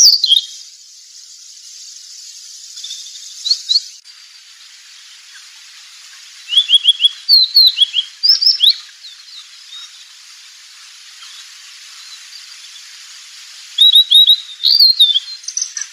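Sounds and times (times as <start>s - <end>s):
songbird singing: 0.0s - 15.9s
steady background hiss: 0.0s - 15.9s.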